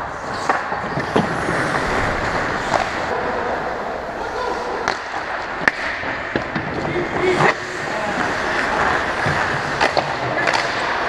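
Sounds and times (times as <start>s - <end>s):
players' voices: 0.0s - 11.0s
skate blades on ice: 0.0s - 11.0s.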